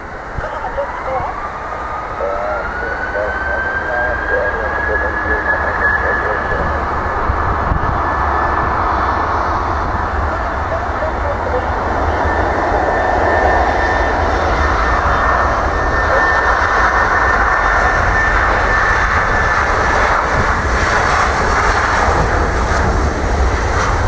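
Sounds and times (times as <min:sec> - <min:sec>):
high engine whine: 0:00.0 - 0:24.0
jet engines running: 0:00.0 - 0:24.0.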